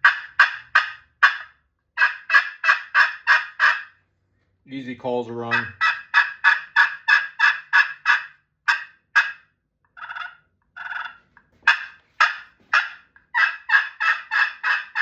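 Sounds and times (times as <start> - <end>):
turkey call scratched with striker: 0.0 - 3.9, 5.5 - 9.4, 10.0 - 15.0.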